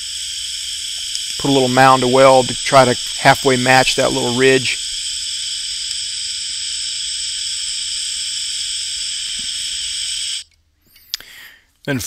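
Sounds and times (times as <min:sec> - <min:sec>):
welding arc hissing: 0:00.0 - 0:10.5.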